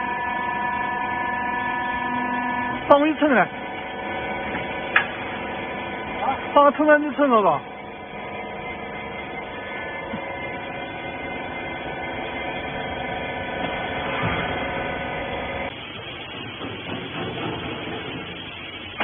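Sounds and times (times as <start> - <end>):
hydraulic pump and motor hum: 0.0 - 19.0.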